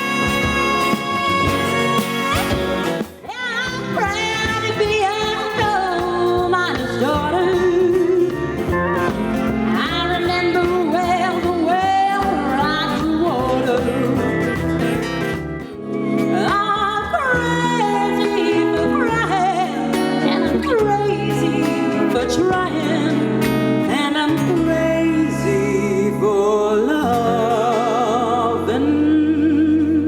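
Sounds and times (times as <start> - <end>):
country song singer with band: 0.0 - 30.0.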